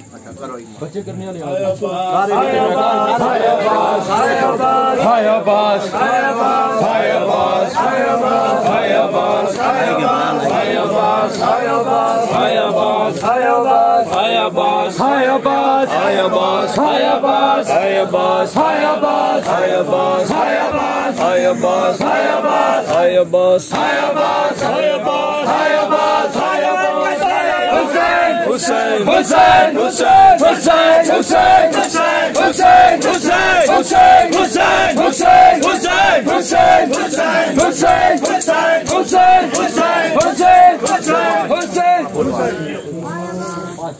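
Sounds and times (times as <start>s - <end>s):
men chanting a lament: 1.4s - 43.9s
rhythmic chest-beating strikes: 2.2s - 43.1s.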